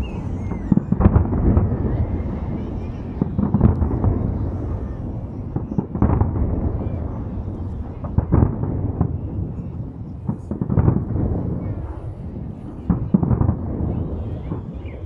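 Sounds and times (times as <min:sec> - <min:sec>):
continuous low rumble: 0:00.0 - 0:15.0
fireworks booming: 0:00.0 - 0:15.0.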